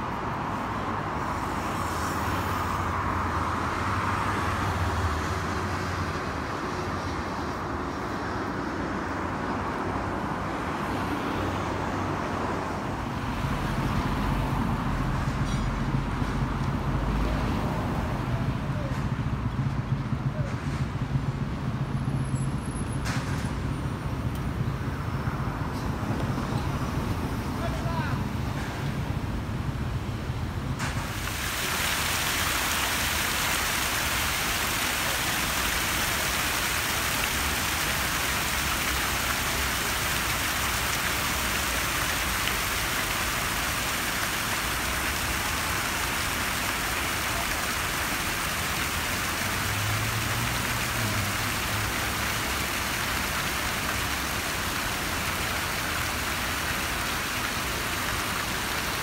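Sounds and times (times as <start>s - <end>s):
fountain water splashing: 0.0s - 22.6s, 23.5s - 59.0s.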